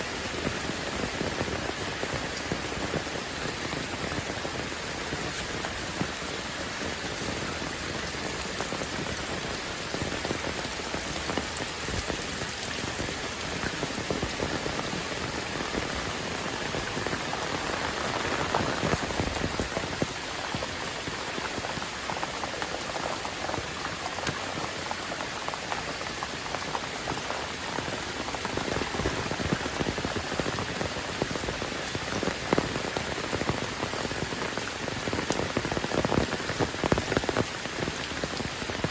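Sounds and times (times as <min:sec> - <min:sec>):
heavy rain pouring: 0:00.0 - 0:38.9
raindrops pattering on surfaces: 0:00.0 - 0:38.9.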